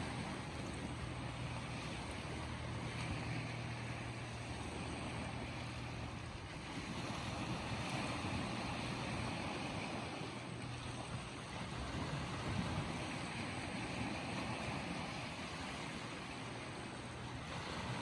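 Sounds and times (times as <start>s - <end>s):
low hum: 0.0s - 18.0s
waves breaking on a shore: 0.0s - 18.0s.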